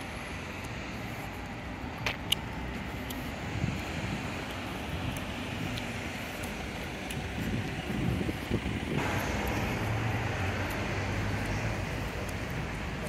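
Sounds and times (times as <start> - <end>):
city traffic noise: 0.0 - 13.0
low engine hum: 0.0 - 13.0.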